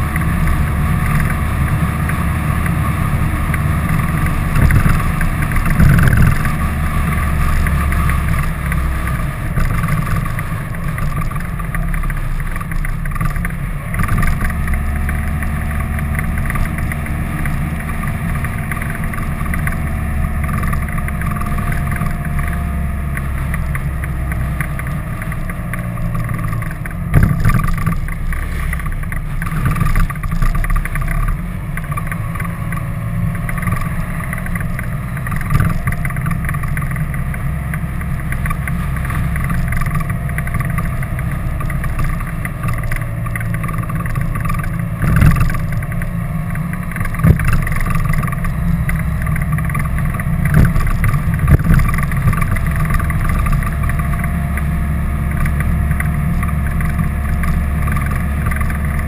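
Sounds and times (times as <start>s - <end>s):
vehicle engine and road rumble: 0.0s - 59.0s.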